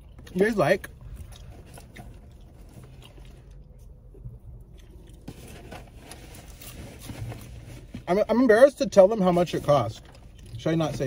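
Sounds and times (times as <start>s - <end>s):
low steady hum: 0.0s - 11.0s
popcorn being chewed: 0.0s - 11.0s.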